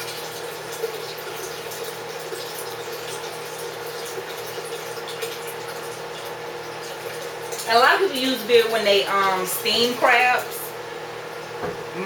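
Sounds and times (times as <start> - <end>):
beer pouring into water: 0.0 - 11.5.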